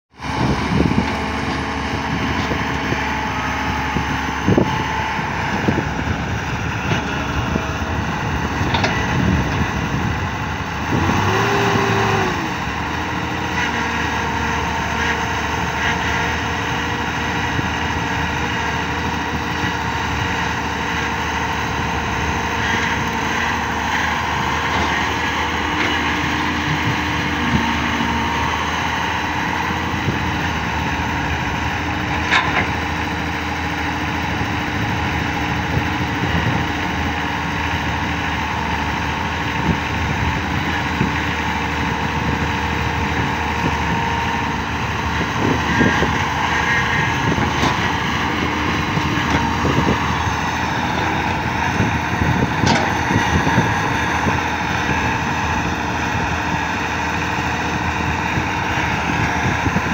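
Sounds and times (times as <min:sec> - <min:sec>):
excavator diesel engine running: 0:00.2 - 0:59.9.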